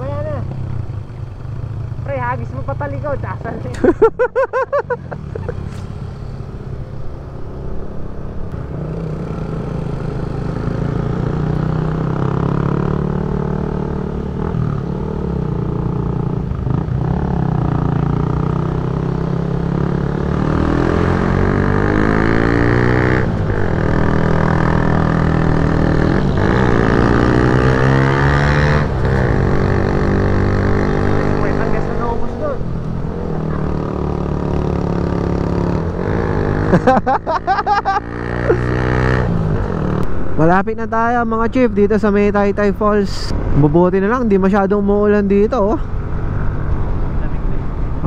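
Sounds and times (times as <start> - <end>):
road and wind noise: 0.0 - 48.0.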